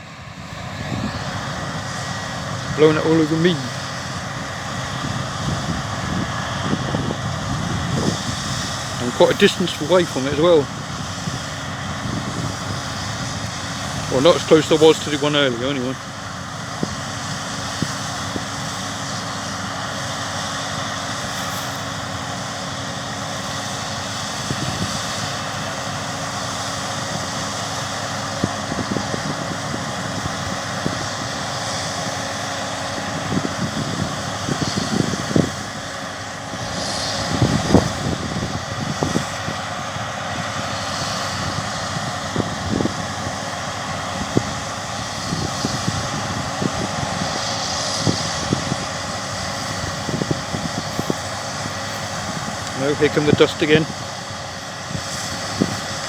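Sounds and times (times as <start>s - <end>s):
distant combine harvester drone: 0.0s - 56.0s
wind buffeting microphone: 0.0s - 56.0s.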